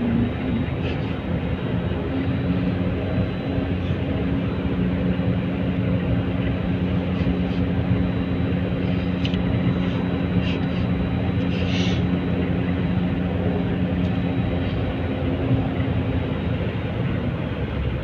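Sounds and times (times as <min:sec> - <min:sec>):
car driving: 0:00.0 - 0:18.0
low hum: 0:00.0 - 0:18.0.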